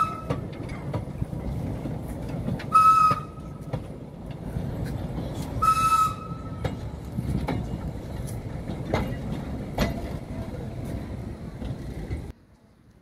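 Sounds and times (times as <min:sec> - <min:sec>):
wheels clicking over track: 0:00.0 - 0:12.3
railway carriages rumbling past: 0:00.0 - 0:12.4.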